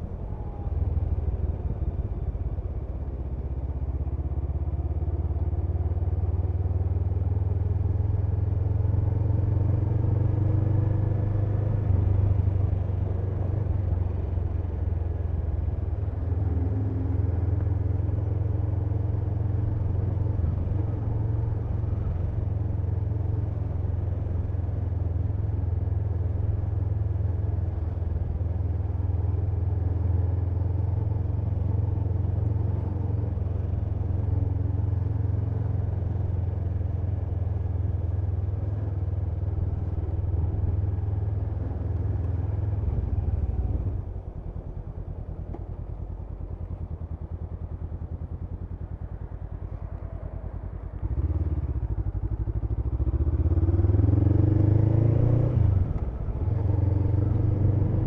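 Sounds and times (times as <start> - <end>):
engine humming steadily: 0.0 - 58.0.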